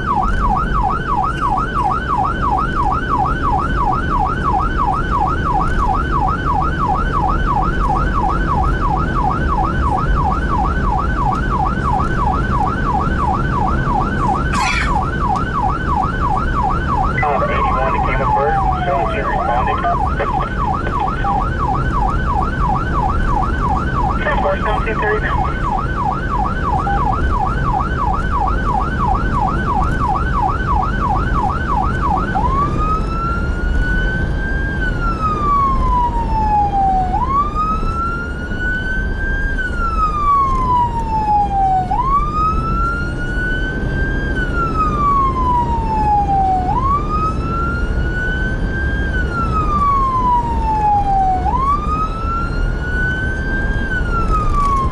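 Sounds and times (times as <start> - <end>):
emergency siren yelping and wailing: 0.0 - 54.9
engine and road rumble: 0.0 - 54.9.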